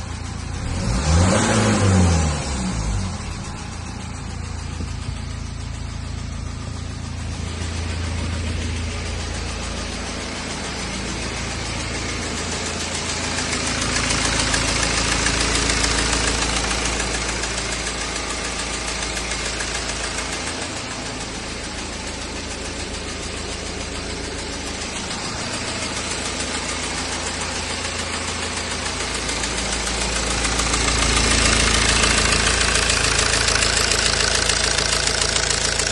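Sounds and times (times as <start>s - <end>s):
diesel engine ticking: 0.0s - 35.9s.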